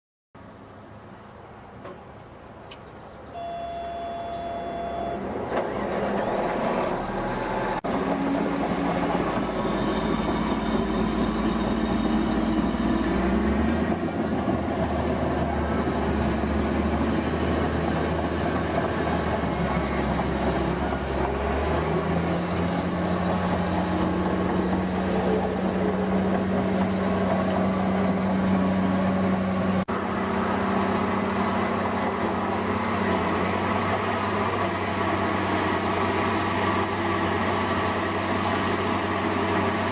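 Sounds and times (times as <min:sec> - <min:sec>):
bulldozer diesel engine under load: 0:03.3 - 0:39.9.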